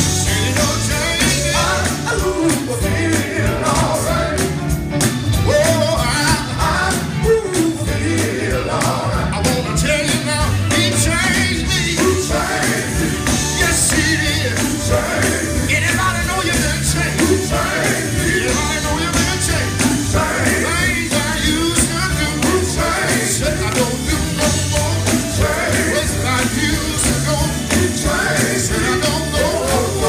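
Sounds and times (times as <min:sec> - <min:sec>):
bass line: 0:00.0 - 0:30.0
drum beat: 0:00.0 - 0:30.0
male vocal group singing: 0:00.0 - 0:30.0.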